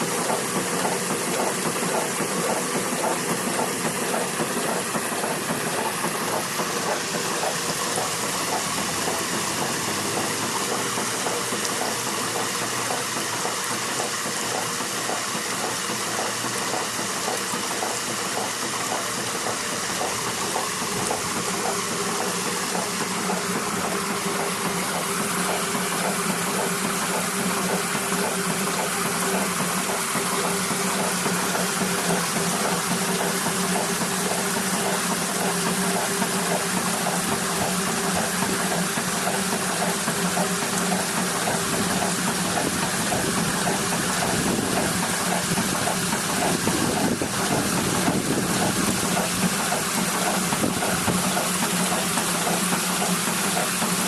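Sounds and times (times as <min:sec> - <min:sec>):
pumping engine running: 0:00.0 - 0:54.0
water gushing from pump: 0:00.0 - 0:54.0.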